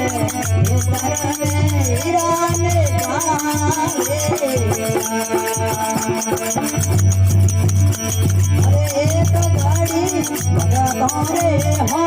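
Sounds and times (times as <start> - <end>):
fast rattling percussion: 0.0 - 12.0
pulsing drum: 0.0 - 12.0.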